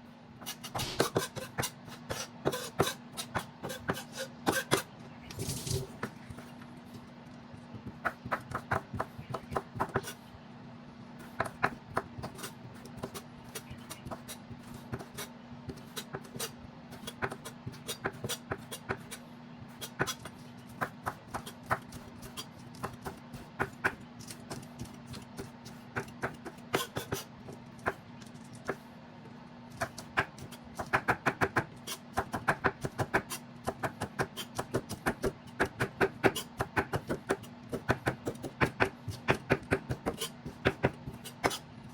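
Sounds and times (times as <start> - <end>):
knife chopping on cutting board: 0.4 - 4.9, 7.9 - 10.2, 11.3 - 19.2, 19.8 - 28.0, 29.8 - 41.6.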